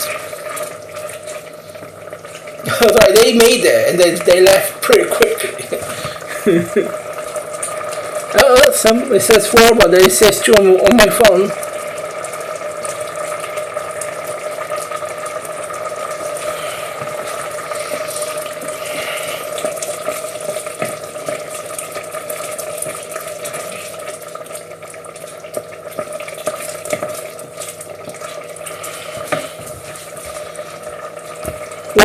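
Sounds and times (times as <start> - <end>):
rice simmering with pops: 0.0 - 32.0
steady hiss and hum: 0.0 - 32.0.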